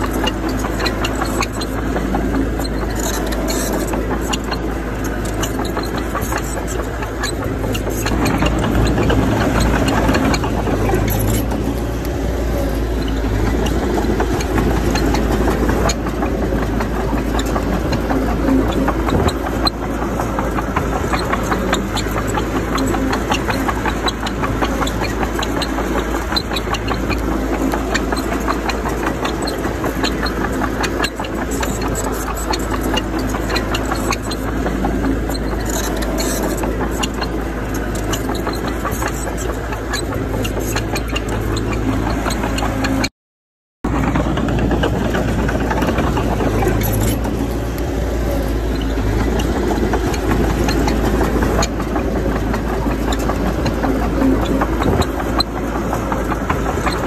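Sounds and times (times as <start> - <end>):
heavy machinery diesel engine: 0.0 - 43.1, 43.8 - 57.0.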